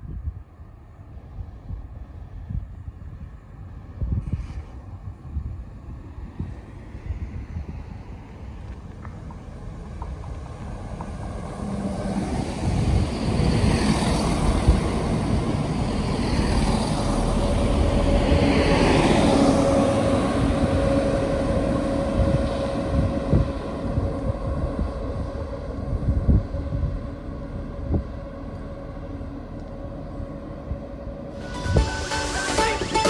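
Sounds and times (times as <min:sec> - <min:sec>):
diesel train engines running: 0:04.8 - 0:33.0.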